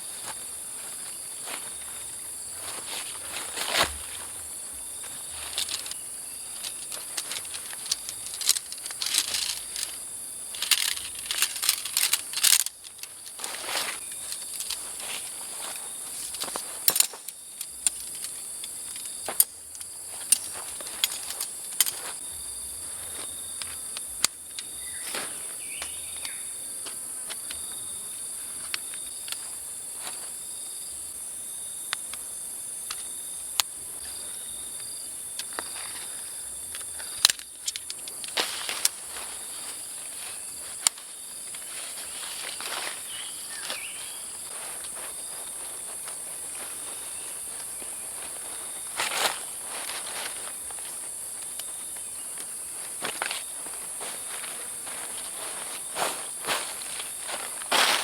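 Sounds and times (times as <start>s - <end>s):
jungle insects chorus: 0.0s - 58.0s.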